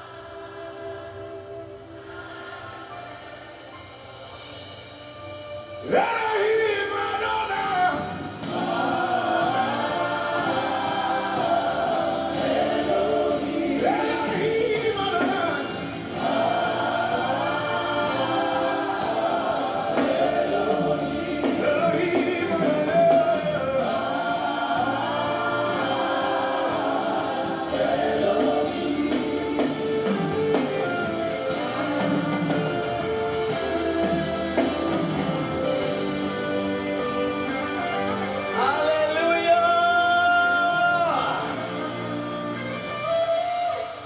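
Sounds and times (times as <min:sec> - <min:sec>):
gospel worship singing: 0:00.0 - 0:44.0.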